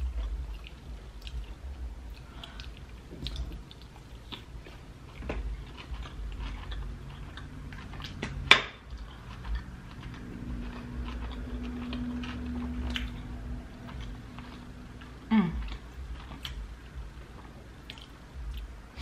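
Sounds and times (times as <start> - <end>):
close-up chewing: 0.0 - 19.0
low steady hum: 0.0 - 19.0.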